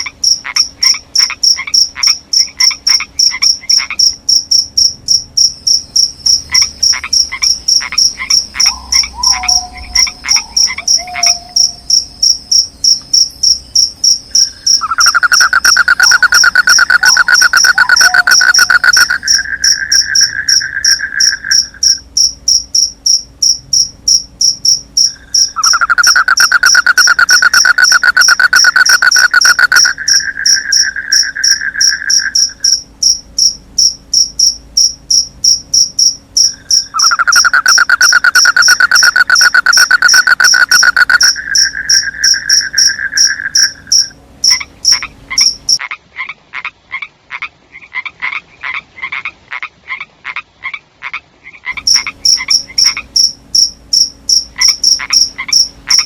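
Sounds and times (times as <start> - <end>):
crickets chirping: 0.0 - 45.8, 51.8 - 56.0
low insect trill: 0.0 - 45.8, 51.8 - 56.0
faint frog croaks: 0.0 - 56.0.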